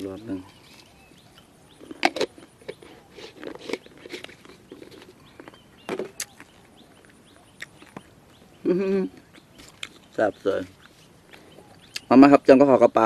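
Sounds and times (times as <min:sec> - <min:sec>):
crunchy chewing: 0:00.3 - 0:12.1.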